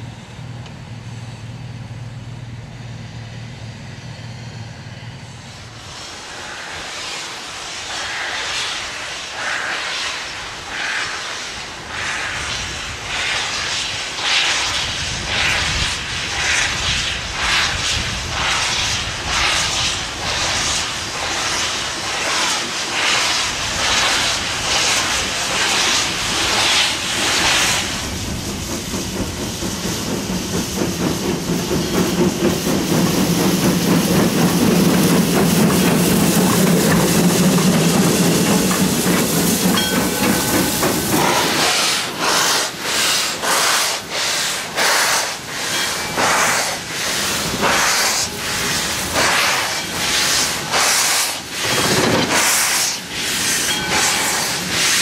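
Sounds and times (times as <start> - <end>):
low rumble of passing locomotive: 0.0 - 55.0
steam locomotive exhaust chuffs: 0.0 - 55.0
steam hissing: 4.3 - 55.0.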